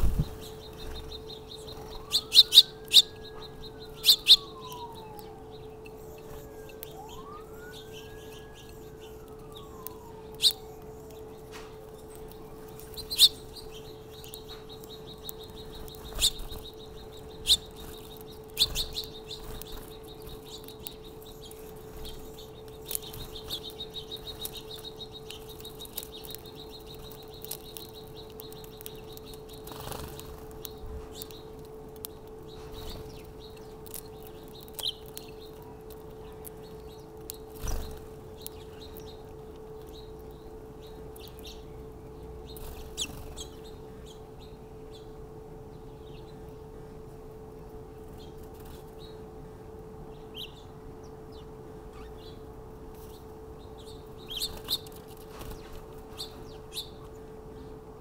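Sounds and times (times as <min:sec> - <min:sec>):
distant siren wailing: 0:00.0 - 0:58.0
small birds chirping: 0:00.0 - 0:58.0
steady low hum: 0:00.0 - 0:58.0.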